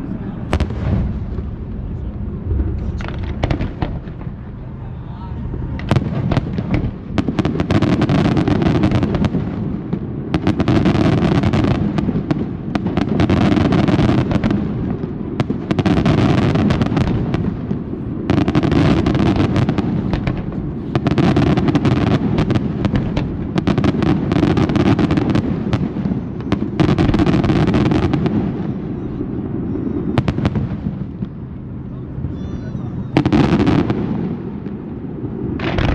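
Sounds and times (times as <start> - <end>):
fireworks bangs and crackling: 0.0 - 35.9.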